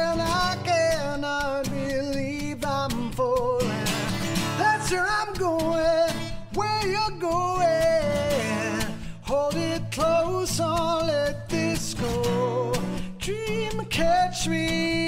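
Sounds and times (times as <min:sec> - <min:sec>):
song with guitar and singing: 0:00.0 - 0:15.0.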